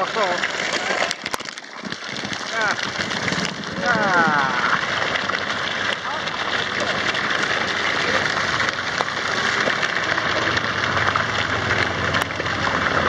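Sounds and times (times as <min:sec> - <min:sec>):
water spray splashing: 0:00.0 - 0:13.0.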